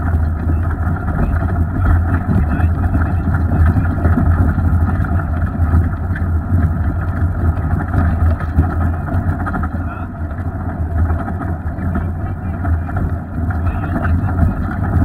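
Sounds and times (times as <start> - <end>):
vehicle engine low drone: 0.0 - 15.0.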